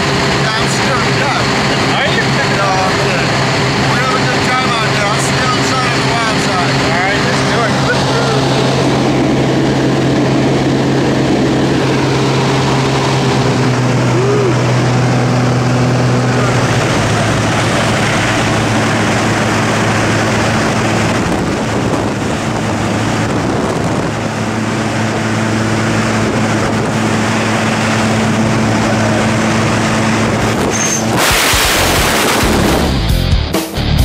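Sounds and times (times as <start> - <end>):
propeller aircraft engine droning: 0.0 - 33.2
loud rushing noise: 0.0 - 34.0.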